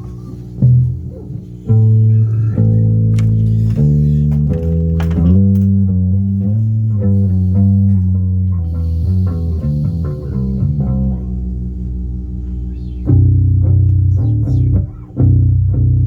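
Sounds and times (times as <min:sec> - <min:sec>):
bass guitar playing: 0:00.0 - 0:16.0.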